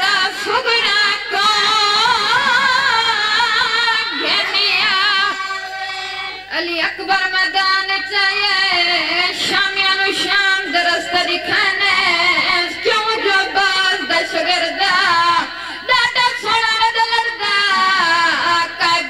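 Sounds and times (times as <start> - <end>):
boys singing into a microphone: 0.0 - 19.0.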